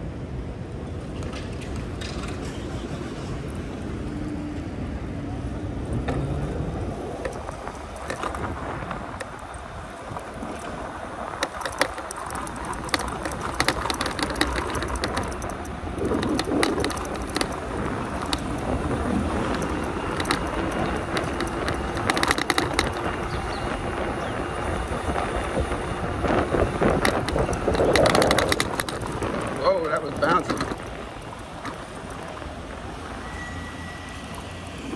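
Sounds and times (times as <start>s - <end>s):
wind over microphone: 0.0s - 34.9s
bike clicks and rattles: 0.7s - 33.0s
tyre rumble on road: 1.0s - 33.2s.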